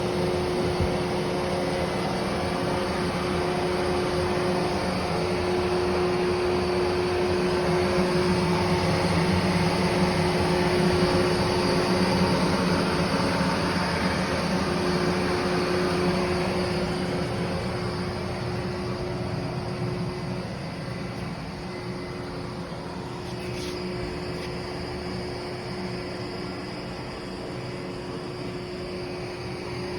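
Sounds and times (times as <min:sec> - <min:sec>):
lathe humming: 0:00.0 - 0:29.9.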